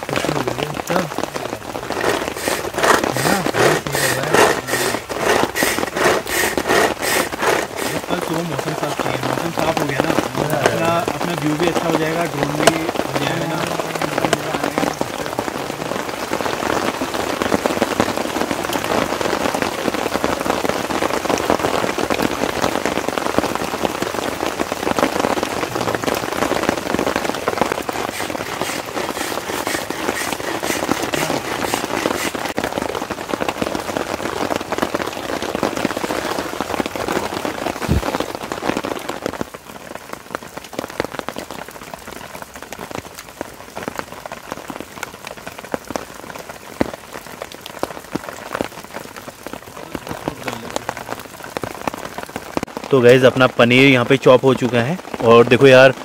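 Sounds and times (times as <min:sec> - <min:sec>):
rain pattering on a tent: 0:00.0 - 0:56.0.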